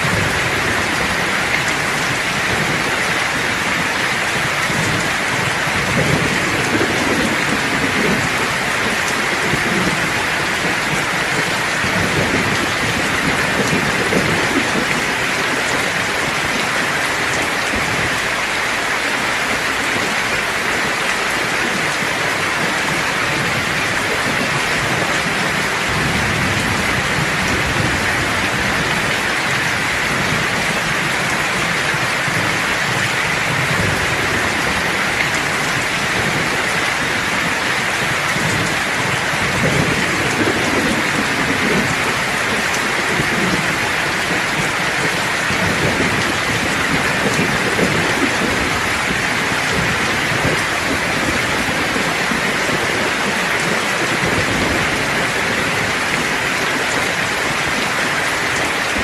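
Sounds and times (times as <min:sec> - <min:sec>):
heavy rain: 0:00.0 - 0:59.0
low thunder rumbles: 0:00.0 - 0:59.0.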